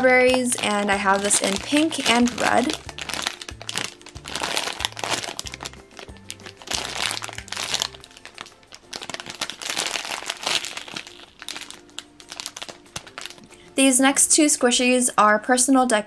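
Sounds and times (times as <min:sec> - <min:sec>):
plastic bag crinkling: 0:00.0 - 0:13.7
background music with stepping bass: 0:00.0 - 0:13.9.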